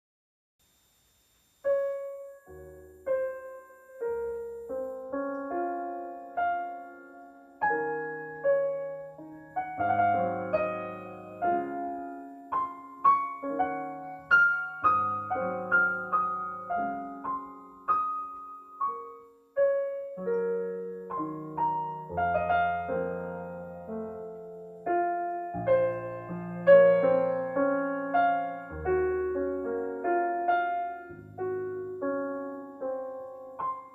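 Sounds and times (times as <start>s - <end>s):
piano playing single notes and chords: 1.6s - 33.9s.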